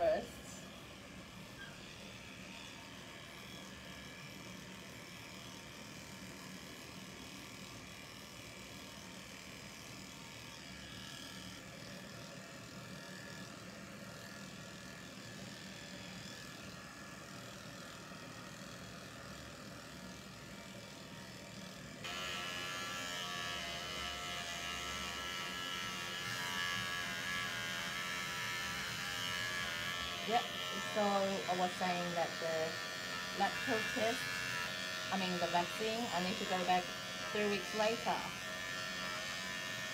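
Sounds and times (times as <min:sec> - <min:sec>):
electric clippers buzzing: 0:00.0 - 0:39.9.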